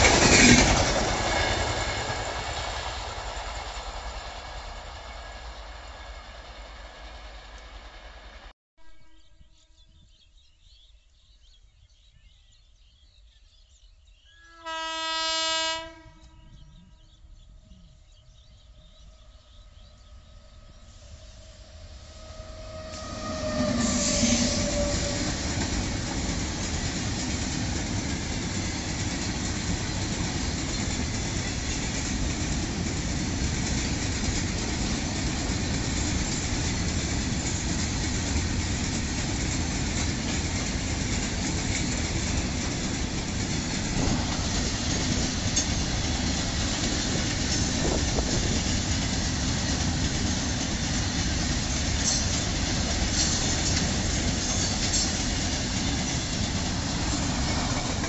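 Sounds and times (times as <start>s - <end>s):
electric locomotive passing: 0.0s - 8.5s, 16.7s - 58.0s
steel wheels on rail: 0.0s - 8.5s, 17.7s - 58.0s.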